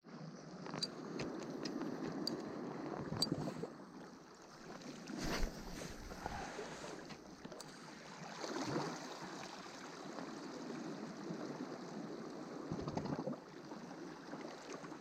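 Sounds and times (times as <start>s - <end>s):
wind: 0.0s - 15.0s
sea water lapping at shore: 0.1s - 15.0s.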